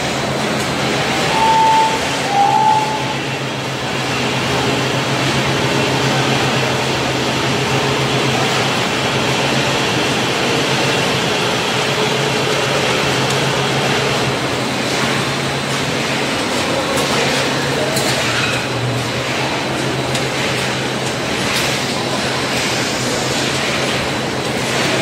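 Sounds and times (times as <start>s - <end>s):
production line machinery: 0.0s - 25.0s.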